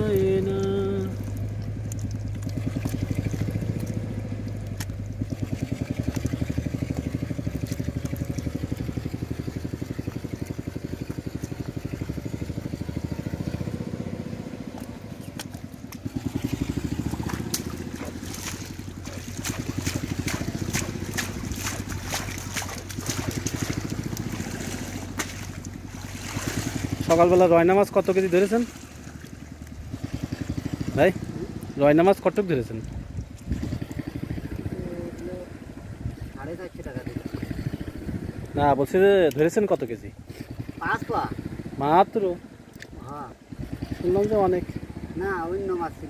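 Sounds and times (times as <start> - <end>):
small engine chugging: 0.0 - 32.8, 33.5 - 46.0
water splashing and sloshing: 0.0 - 46.0.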